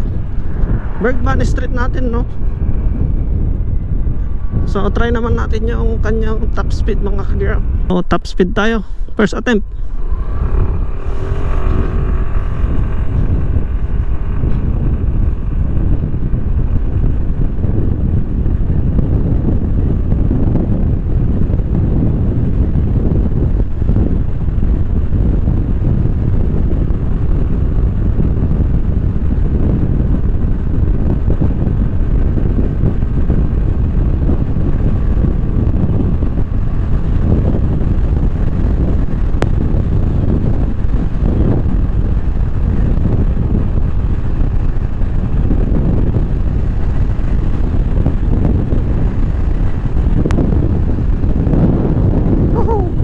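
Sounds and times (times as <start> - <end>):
road noise: 0.0 - 53.0
wind noise on microphone: 0.0 - 53.0
scooter engine: 9.7 - 53.0.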